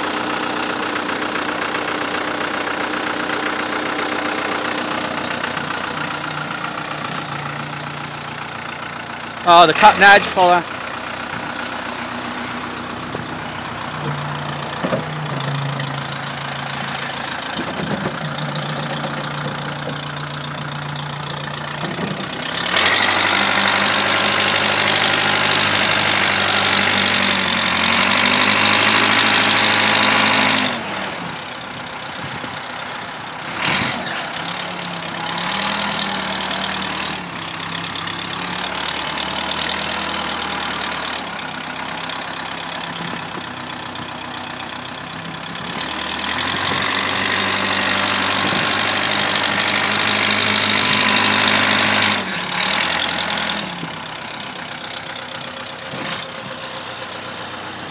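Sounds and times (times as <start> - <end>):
backhoe engine running: 0.0 - 57.9.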